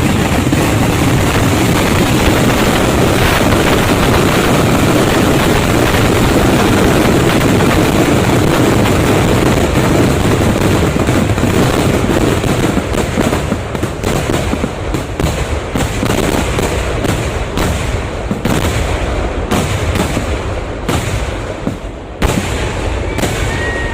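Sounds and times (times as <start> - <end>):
fireworks explosions: 0.0 - 23.9.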